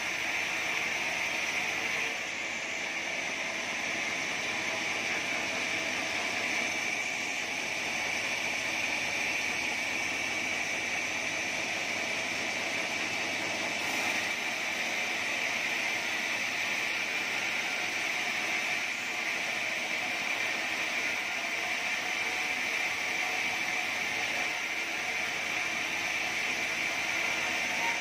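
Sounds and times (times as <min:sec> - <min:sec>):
band saw cutting timber: 0:00.0 - 0:28.0.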